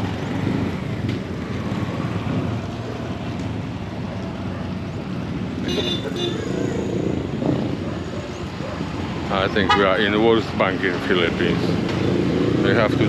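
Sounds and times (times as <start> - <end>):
street traffic: 0.0 - 13.0
wind buffeting microphone: 0.0 - 13.0.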